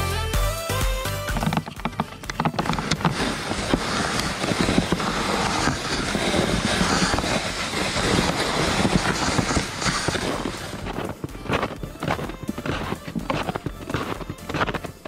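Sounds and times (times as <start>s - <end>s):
sled dragged over snow: 1.2s - 15.0s
snowshoe footsteps crunching: 1.3s - 15.0s.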